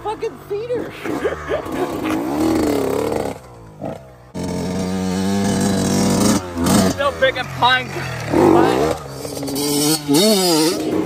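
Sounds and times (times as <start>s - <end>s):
two-stroke motorcycle engine: 0.0s - 11.0s.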